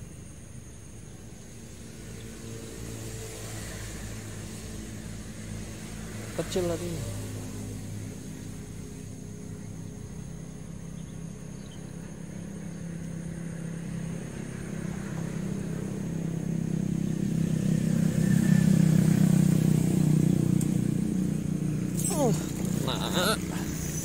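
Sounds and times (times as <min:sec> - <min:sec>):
vehicle engine approaching: 0:02.4 - 0:24.0.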